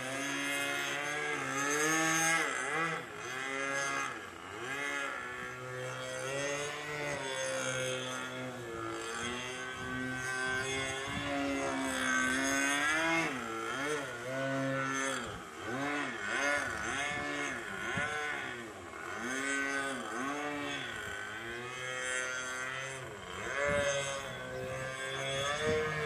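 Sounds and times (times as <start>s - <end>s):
model plane engine revving: 0.0s - 26.0s.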